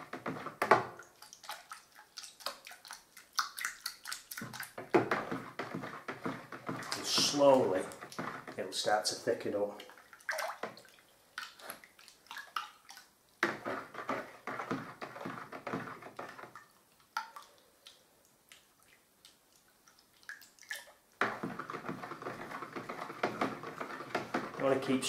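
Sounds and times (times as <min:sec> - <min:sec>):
stick stirring paste in bucket: 0:00.0 - 0:19.4, 0:20.0 - 0:25.0.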